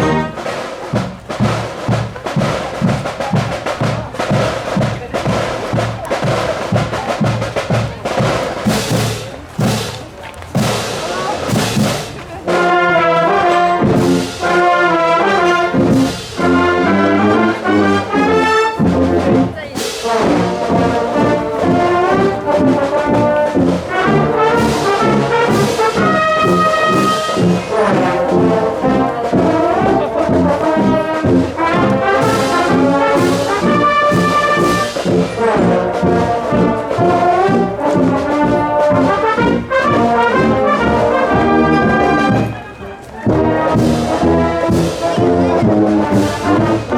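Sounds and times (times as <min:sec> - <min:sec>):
marching percussion beat: 0:00.0 - 0:46.9
trombones and trumpets: 0:00.0 - 0:46.9.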